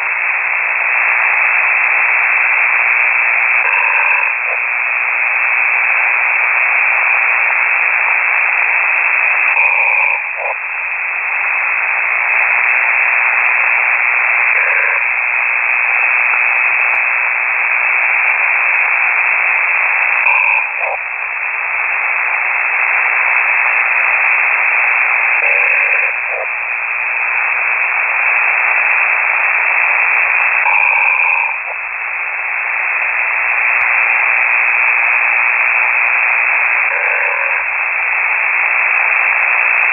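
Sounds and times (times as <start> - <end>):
person snoring over radio: 0.0 - 10.7, 11.4 - 39.9
radio hiss: 0.0 - 39.9.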